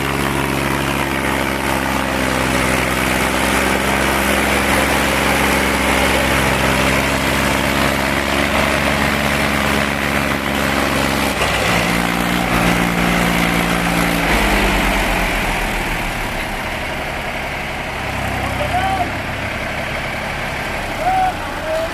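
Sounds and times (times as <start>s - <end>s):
diesel tractor engine running: 0.0s - 21.9s.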